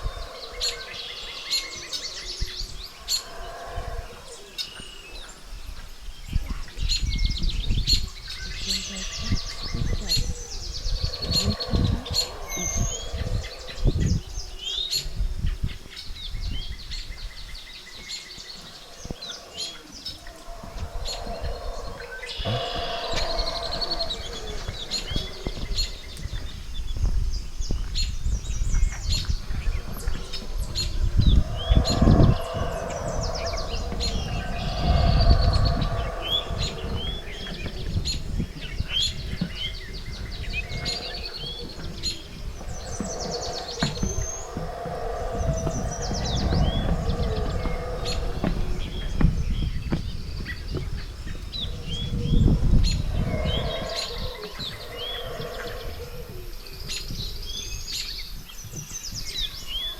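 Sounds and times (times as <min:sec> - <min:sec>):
birds chirping and calling: 0:00.0 - 0:59.9
distant howler monkeys roaring: 0:00.0 - 0:59.9.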